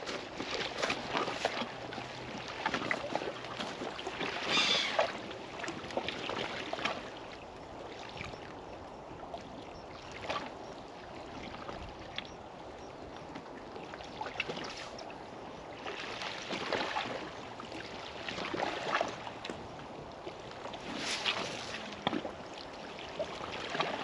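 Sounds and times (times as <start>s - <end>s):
water lapping at shore: 0.0s - 24.0s
wind: 0.0s - 24.0s.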